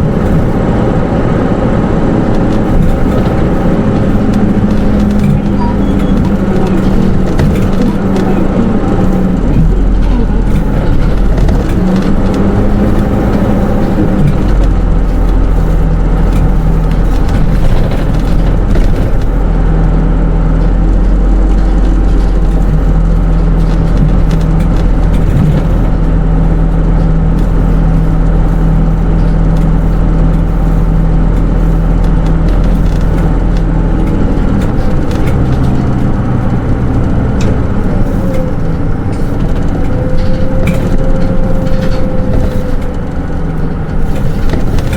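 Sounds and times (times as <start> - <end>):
bus engine drone: 0.0 - 44.9
road rumble: 0.0 - 44.9.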